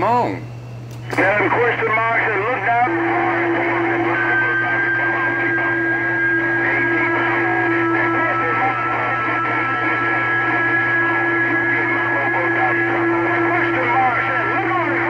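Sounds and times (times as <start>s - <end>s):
garbled radio voices and noise: 1.0s - 15.0s.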